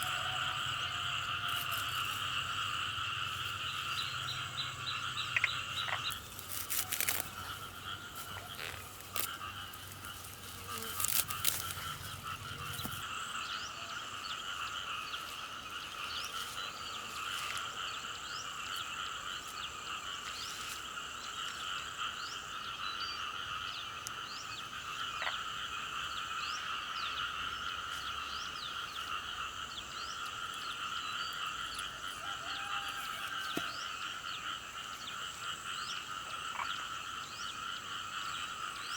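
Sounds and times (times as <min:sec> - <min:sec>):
frogs chorus: 0:00.0 - 0:38.9.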